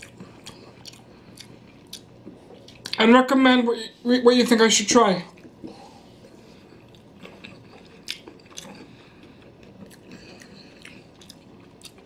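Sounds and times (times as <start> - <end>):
close chewing mouth sounds: 0.0 - 3.0, 5.3 - 12.0.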